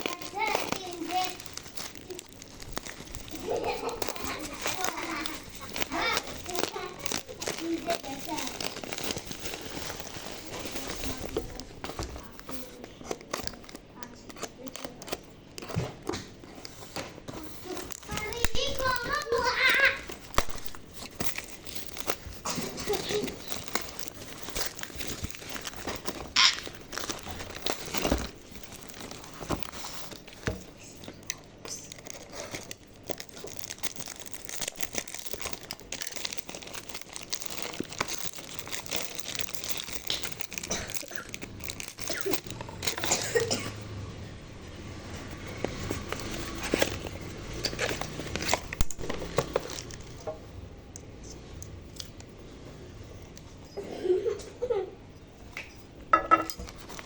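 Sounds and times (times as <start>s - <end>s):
packaging crinkling and tearing: 0.0s - 43.9s, 44.9s - 50.6s, 56.5s - 57.0s.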